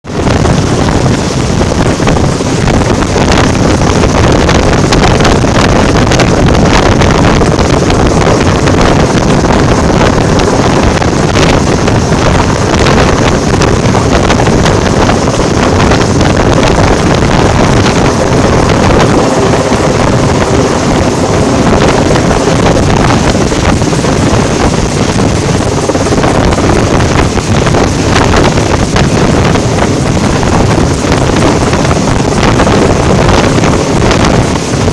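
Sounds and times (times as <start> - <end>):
motorboat engine running: 0.0 - 34.9
wind buffeting microphone: 0.0 - 34.9.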